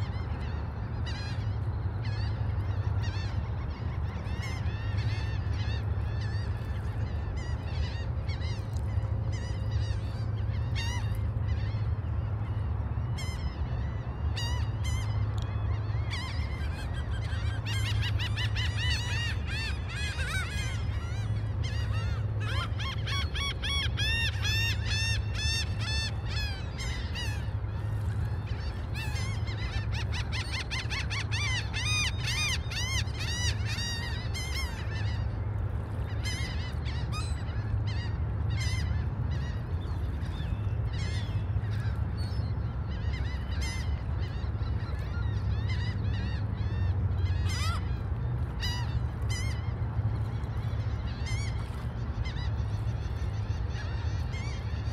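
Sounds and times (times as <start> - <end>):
gulls calling: 0.0 - 54.9.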